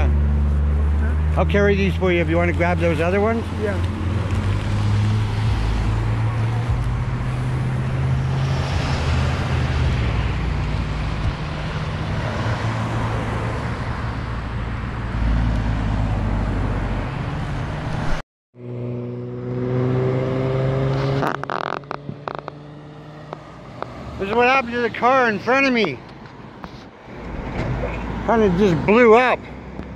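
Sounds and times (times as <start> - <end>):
highway traffic roar: 0.0 - 29.9.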